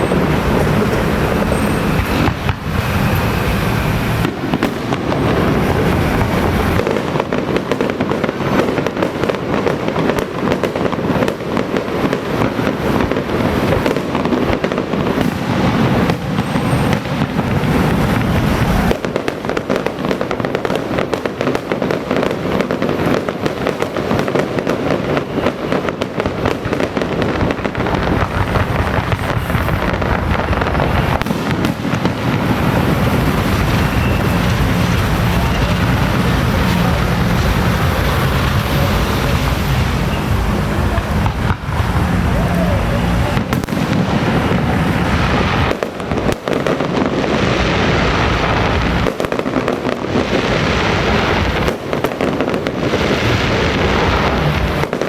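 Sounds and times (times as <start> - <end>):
firecrackers crackling rapidly: 0.0 - 55.0.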